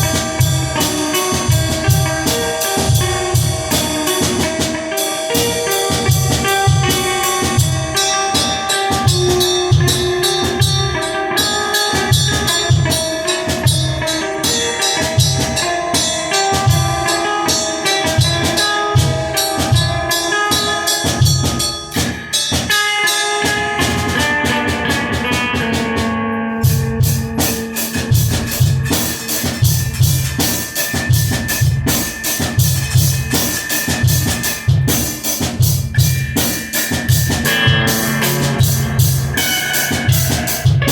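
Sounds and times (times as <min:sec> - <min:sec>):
electric guitar: 0:00.0 - 0:29.6, 0:35.9 - 0:40.9
drum kit playing: 0:00.0 - 0:40.9.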